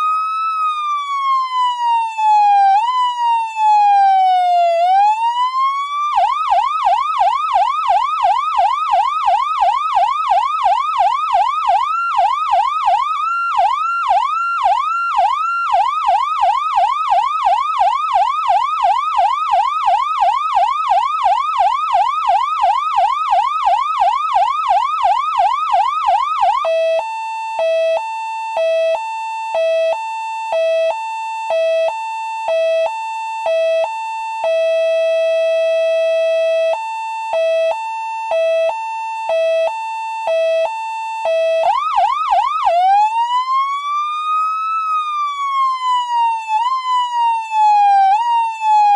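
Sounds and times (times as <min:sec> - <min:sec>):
electronic siren yelp: 0:00.0 - 0:48.9
two-tone siren: 0:00.0 - 0:48.9.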